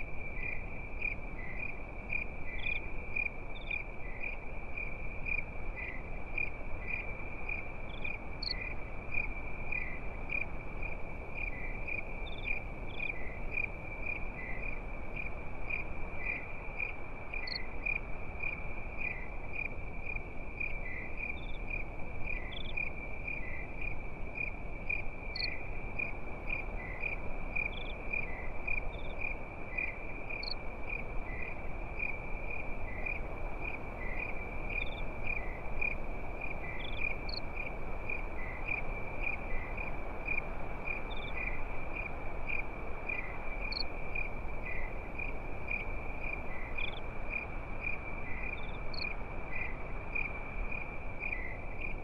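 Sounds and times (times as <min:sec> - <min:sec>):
crickets chirping: 0:00.0 - 0:52.0
soft steady hiss: 0:00.0 - 0:52.0.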